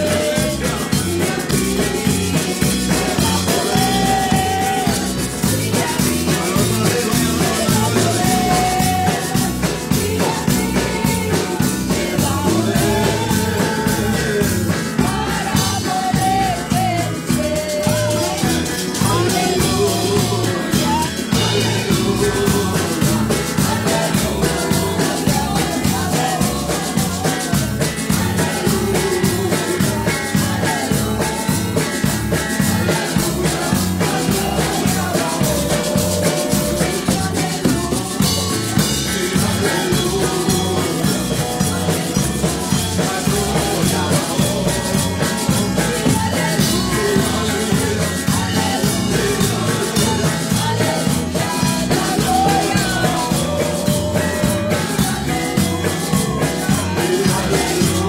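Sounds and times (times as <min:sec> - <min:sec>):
drum kit steady beat: 0:00.0 - 0:58.0
electric bass guitar: 0:00.0 - 0:58.0
woman singing into a microphone: 0:00.0 - 0:58.0.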